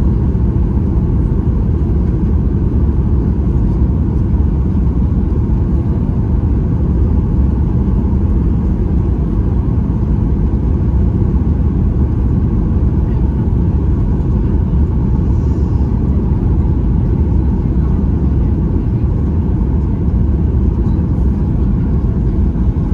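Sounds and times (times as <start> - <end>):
airplane cabin rumble: 0.0 - 22.9.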